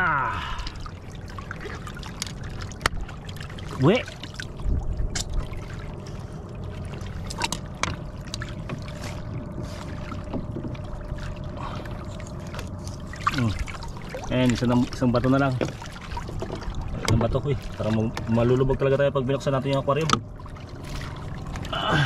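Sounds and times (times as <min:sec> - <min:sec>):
faint steady hum: 0:00.0 - 0:22.0
water lapping against boat hull: 0:00.0 - 0:22.0.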